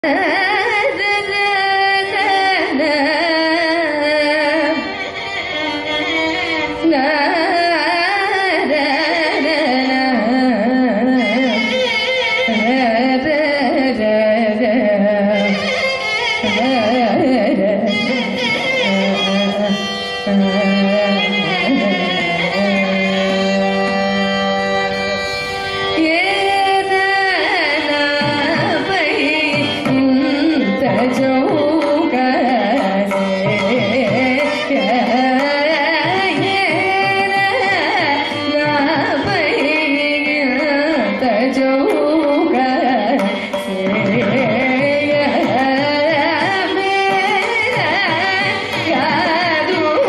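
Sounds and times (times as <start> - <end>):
woman singing: 0.0 - 5.1, 5.8 - 24.8, 25.9 - 50.0
violin: 0.0 - 50.0.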